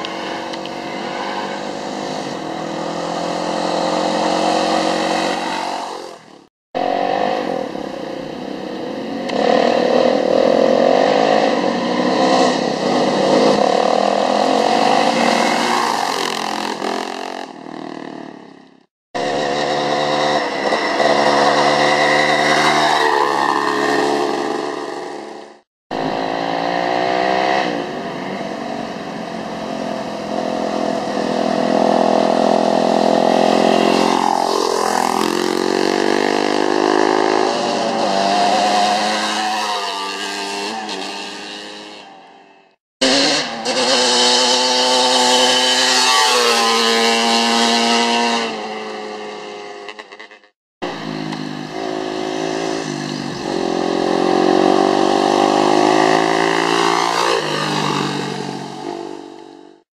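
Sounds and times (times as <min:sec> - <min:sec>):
motorcycles riding past: 0:00.0 - 0:18.6, 0:19.2 - 0:59.8.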